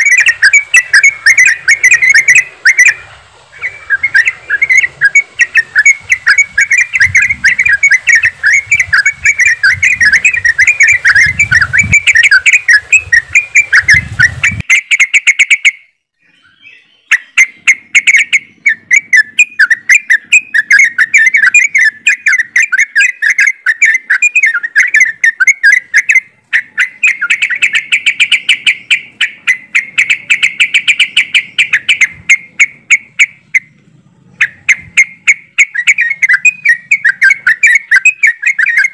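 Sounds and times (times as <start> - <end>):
bird flock chattering: 0.0 - 15.6, 16.4 - 38.9.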